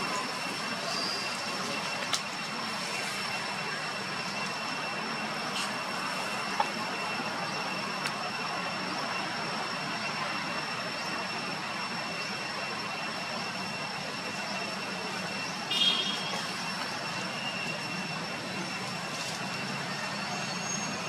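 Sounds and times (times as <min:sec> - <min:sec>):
outdoor background rush: 0:00.0 - 0:21.0
thin high whine: 0:00.0 - 0:21.0.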